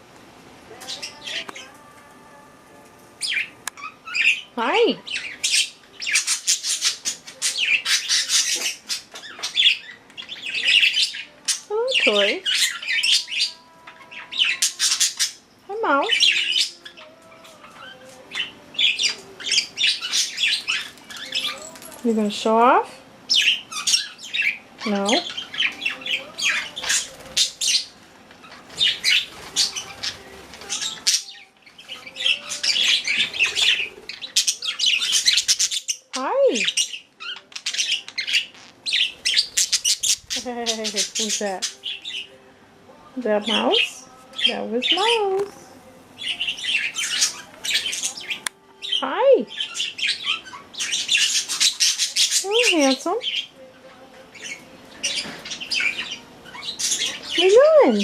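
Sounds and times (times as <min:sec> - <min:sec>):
budgerigars chirping and squawking: 0:03.2 - 0:42.4, 0:43.3 - 0:45.6, 0:46.2 - 0:58.0.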